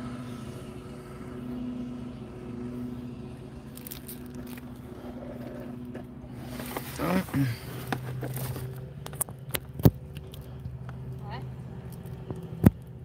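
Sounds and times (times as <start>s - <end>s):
car engine and road hum: 0.0s - 13.0s.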